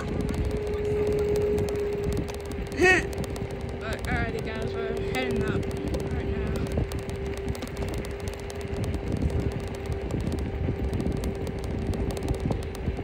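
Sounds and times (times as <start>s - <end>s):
electric scooter motor whine: 0.0s - 13.0s
tyres on road: 0.0s - 13.0s
wind on microphone: 0.0s - 13.0s.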